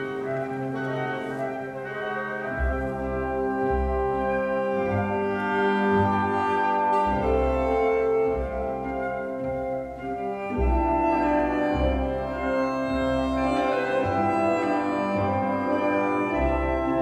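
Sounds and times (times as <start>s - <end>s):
orchestral background music: 0.0s - 17.0s.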